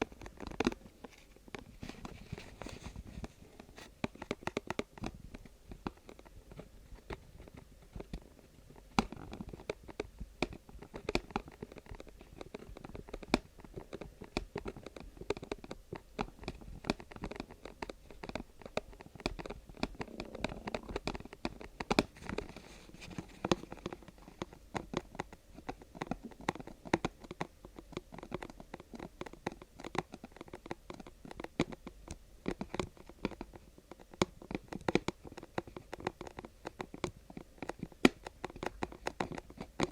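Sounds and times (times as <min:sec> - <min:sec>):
crinkly rustling: 0:00.0 - 0:39.9
tapping and scratching on objects: 0:00.0 - 0:39.9.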